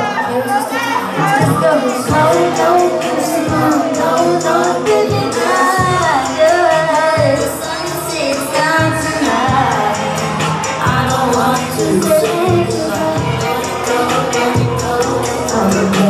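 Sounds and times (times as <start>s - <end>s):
woman singing into microphone: 0.0s - 16.0s
amplified music with bass and drums: 1.2s - 16.0s.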